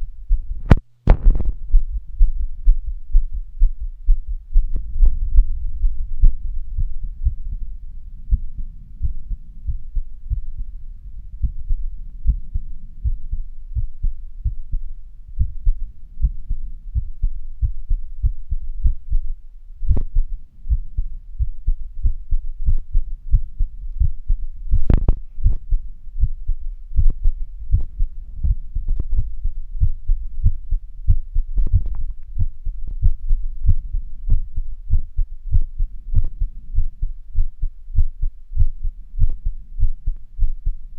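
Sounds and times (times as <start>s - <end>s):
heartbeat thumps: 0.3s - 40.8s.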